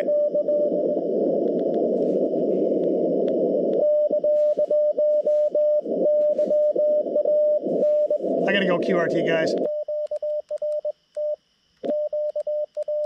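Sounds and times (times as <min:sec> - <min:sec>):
shortwave receiver hiss: 0:00.0 - 0:12.6
morse code beeps: 0:00.0 - 0:13.0.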